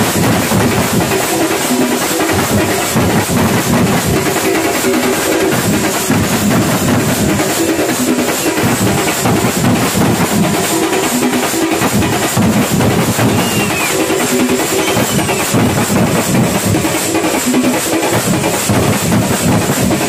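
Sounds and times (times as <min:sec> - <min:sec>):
hand cymbals clashing: 0:00.0 - 0:20.0
stick drums beating fast rhythm: 0:00.0 - 0:20.0.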